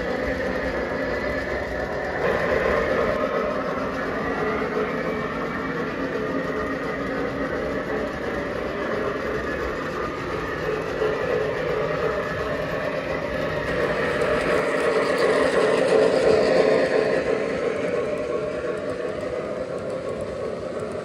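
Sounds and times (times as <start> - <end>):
model train wheels rumbling: 0.0 - 21.0.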